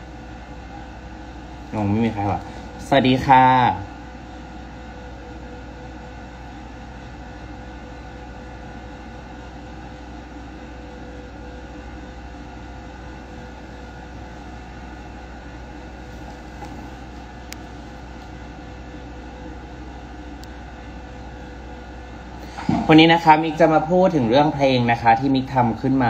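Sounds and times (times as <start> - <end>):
background hum and hiss: 0.0 - 26.0.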